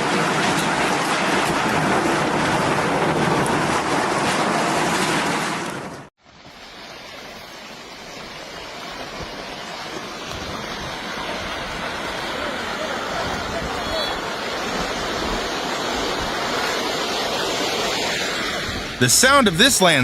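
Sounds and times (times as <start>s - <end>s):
fast-moving water rushing: 0.0s - 20.0s
torrential rain rushing: 0.0s - 20.0s.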